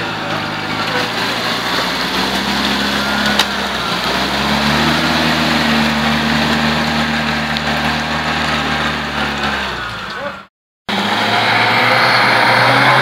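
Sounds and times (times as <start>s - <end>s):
engine running under load: 0.0s - 13.0s
wheels churning mud: 0.0s - 13.0s.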